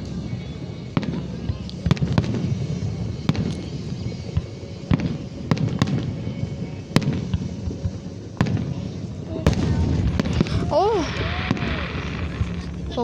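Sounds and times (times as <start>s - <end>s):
distant explosions rumbling: 0.0s - 13.0s
fireworks bangs: 0.0s - 13.0s.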